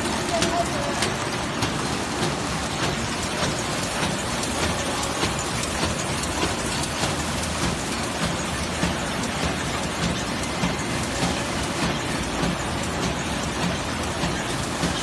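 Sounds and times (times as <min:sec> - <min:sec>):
machine clattering: 0:00.0 - 0:15.0
regular machine knock: 0:00.0 - 0:15.0.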